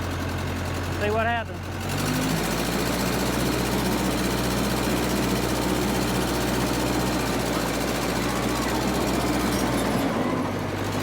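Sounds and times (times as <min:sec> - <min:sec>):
dozer engine under load: 0:00.0 - 0:11.0.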